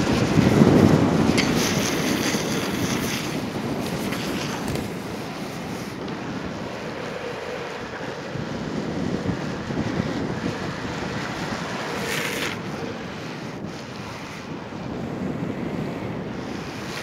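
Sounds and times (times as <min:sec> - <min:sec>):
skateboard wheels rolling on asphalt: 0:00.0 - 0:17.0
wind rushing over microphone: 0:00.0 - 0:17.0.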